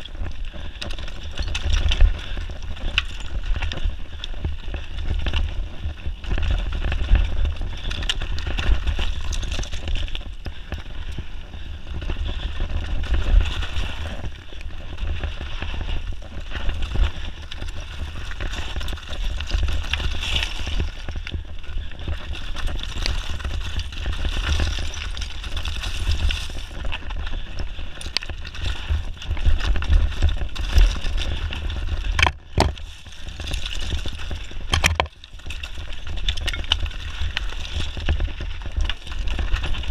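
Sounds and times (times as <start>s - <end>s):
bike rattling and knocking: 0.0s - 39.9s
tyres rolling over gravel: 0.0s - 39.9s
wind rumbling on microphone: 0.0s - 39.9s.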